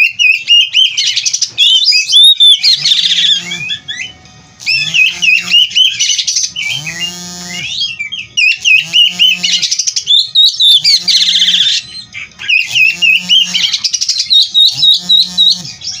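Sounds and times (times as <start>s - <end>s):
bird singing whistles and trills: 0.0s - 16.0s.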